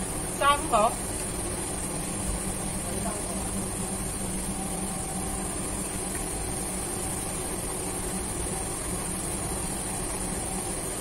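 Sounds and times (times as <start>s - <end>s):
exhaust fans droning: 0.0s - 11.0s.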